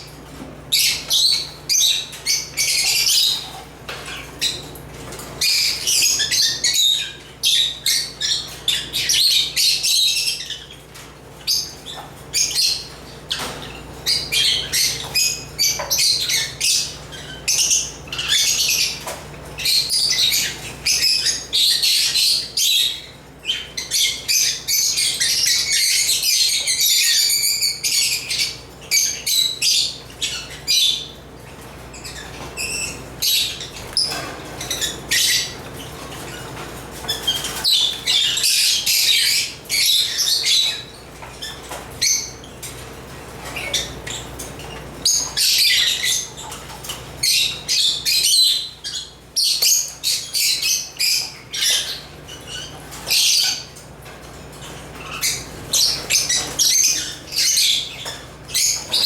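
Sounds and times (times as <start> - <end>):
lovebirds chirping and squawking: 0.0 - 59.0.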